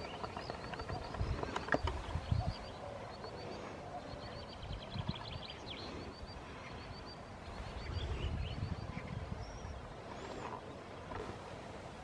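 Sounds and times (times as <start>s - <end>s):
wind on microphone: 0.0s - 3.3s, 4.3s - 6.4s, 7.0s - 12.0s
songbird chirping: 0.0s - 12.0s.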